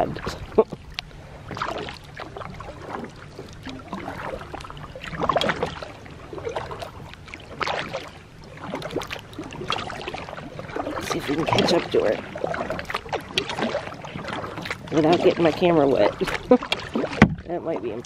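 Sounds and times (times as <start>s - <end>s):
kayak paddle strokes in water: 0.0s - 18.0s
water splashing and trickling: 0.0s - 18.0s.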